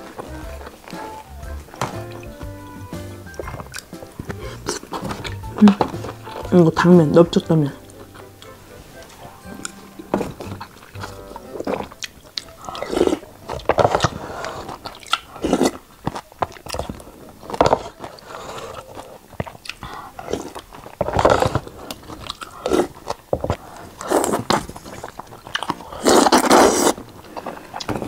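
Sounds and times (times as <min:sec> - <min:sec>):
noodle slurping: 0:00.0 - 0:06.5, 0:07.8 - 0:27.9
chewing: 0:00.0 - 0:06.6, 0:07.7 - 0:28.0.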